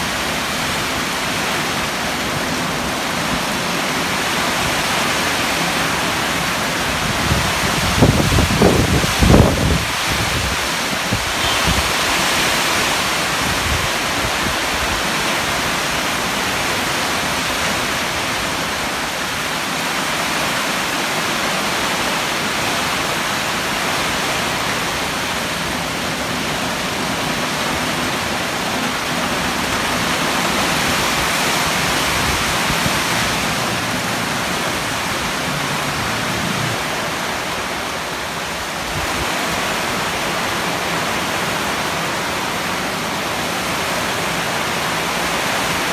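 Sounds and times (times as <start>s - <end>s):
heavy rain: 0.0s - 45.9s
strong wind through trees: 0.0s - 45.9s.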